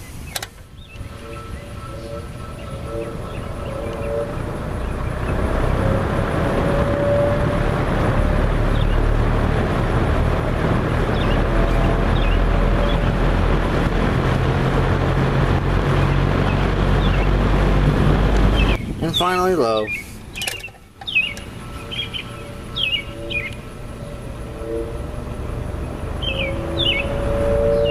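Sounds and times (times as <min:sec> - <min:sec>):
fan air rushing: 0:00.0 - 0:27.9
low motor hum: 0:00.0 - 0:27.9.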